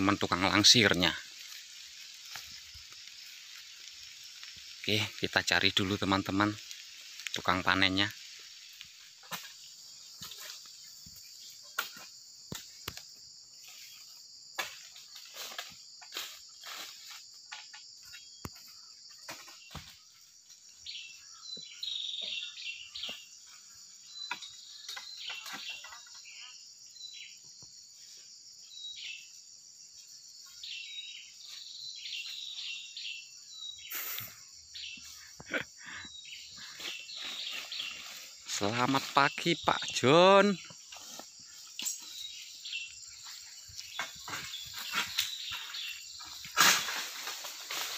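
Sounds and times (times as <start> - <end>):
insect drone: 0.0 - 47.9.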